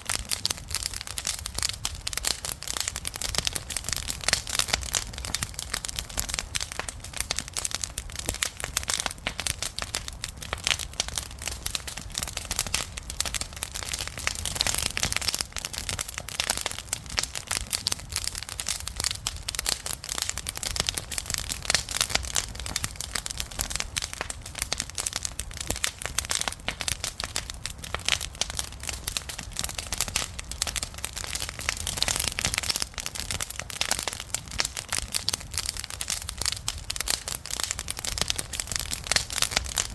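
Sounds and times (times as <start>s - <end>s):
low rumble of flame: 0.0s - 39.9s
wood crackling and popping: 0.0s - 39.9s.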